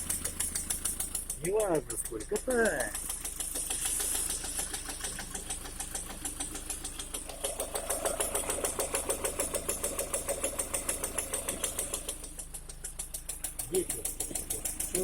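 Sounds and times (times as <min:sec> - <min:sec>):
car engine running: 0:00.0 - 0:15.0
fast even engine knock: 0:00.0 - 0:15.0.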